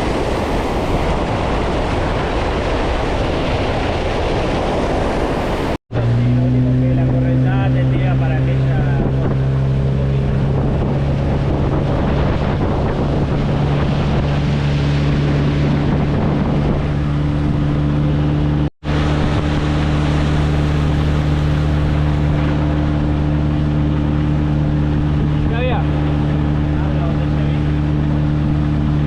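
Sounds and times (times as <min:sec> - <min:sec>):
rushing water: 0:00.0 - 0:29.0
wind buffeting microphone: 0:00.0 - 0:29.0
motorboat engine running: 0:04.4 - 0:29.0.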